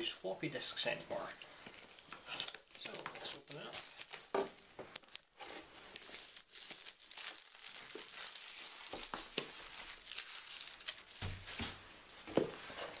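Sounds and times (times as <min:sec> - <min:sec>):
packaging crinkling and rustling: 0:01.1 - 0:13.0.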